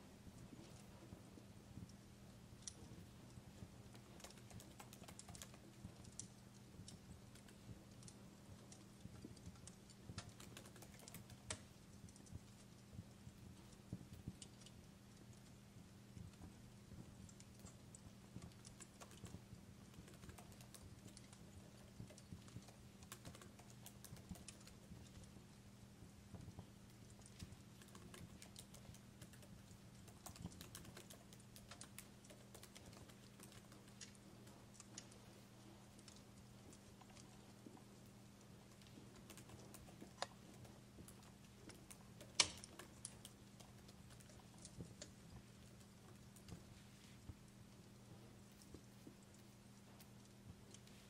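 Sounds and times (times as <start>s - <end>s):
fireplace crackling: 0.0s - 51.0s
steady low hum: 0.0s - 51.0s.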